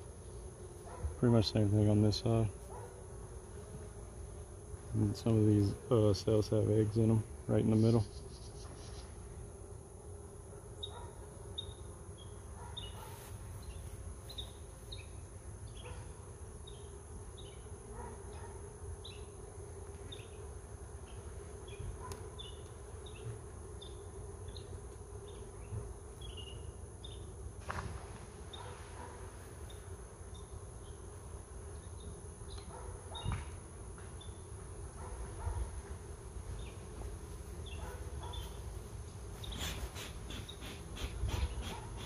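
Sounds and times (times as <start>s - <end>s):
honeybees humming: 0.0s - 42.0s.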